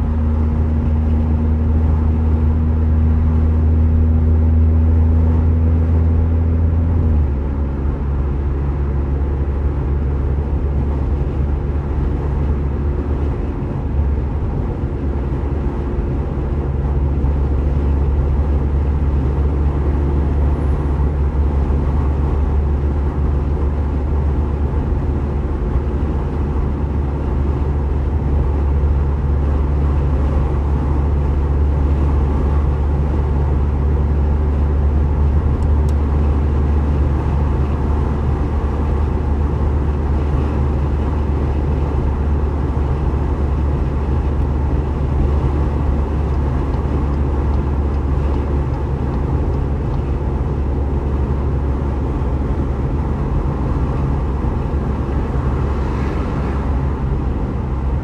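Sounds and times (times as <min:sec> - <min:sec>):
low engine drone: 0:00.0 - 0:58.0
tyre and road noise: 0:00.0 - 0:58.0.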